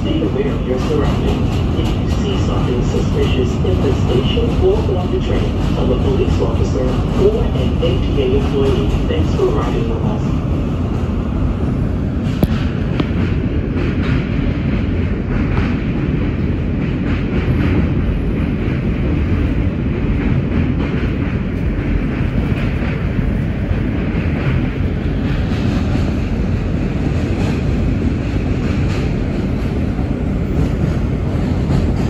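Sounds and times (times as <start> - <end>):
rail joint clicks: 0.0 - 32.0
subway train wheels rumbling: 0.0 - 32.0.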